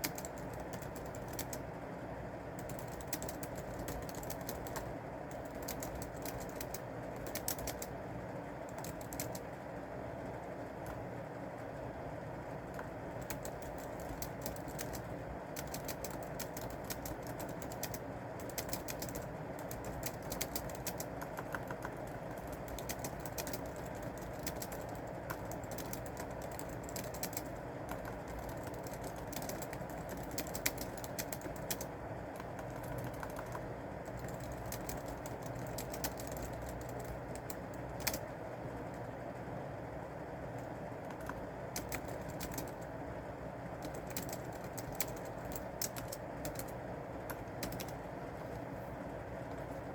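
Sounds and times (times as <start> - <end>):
typing on computer keyboard: 0.0 - 1.7, 2.5 - 8.0, 8.6 - 9.5, 12.7 - 39.1, 40.6 - 42.9, 43.8 - 48.1
low background hum: 0.0 - 49.9.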